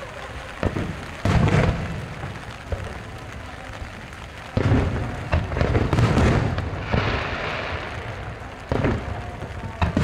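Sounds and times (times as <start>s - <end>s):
fireworks booming: 0.0s - 10.0s
fireworks hiss: 0.0s - 10.0s.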